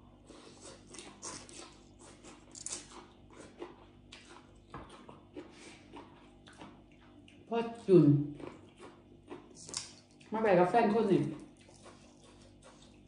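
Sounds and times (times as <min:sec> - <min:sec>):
person chewing food: 0:00.0 - 0:10.3, 0:11.2 - 0:13.0.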